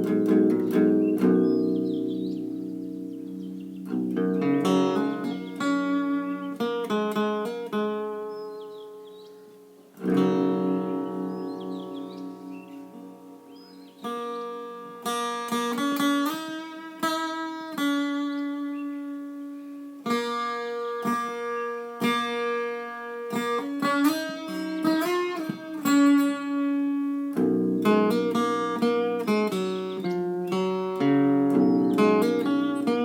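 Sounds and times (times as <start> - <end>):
solo guitar melody: 0.0 - 33.0.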